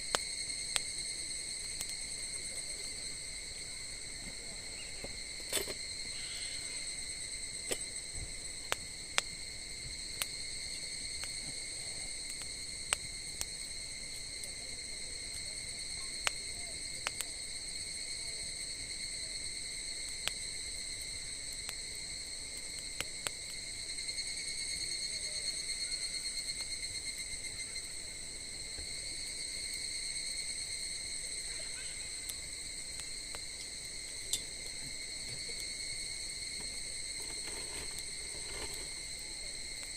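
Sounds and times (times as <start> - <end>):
insects trilling: 0.0 - 39.9
wood fire crackling: 0.0 - 39.9.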